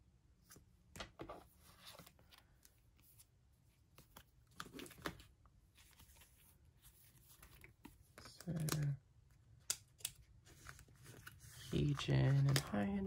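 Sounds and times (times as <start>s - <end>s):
plastic card sleeves rustling: 1.3s - 13.0s.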